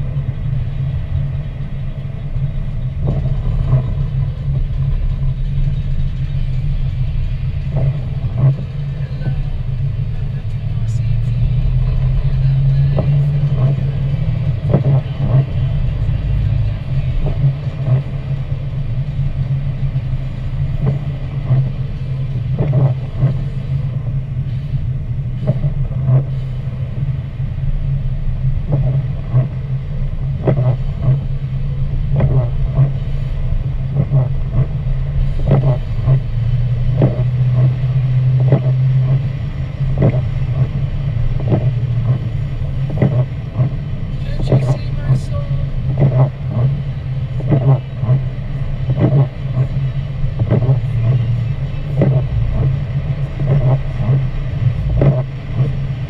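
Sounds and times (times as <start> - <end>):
car engine and tyres on wet road: 0.0 - 56.0.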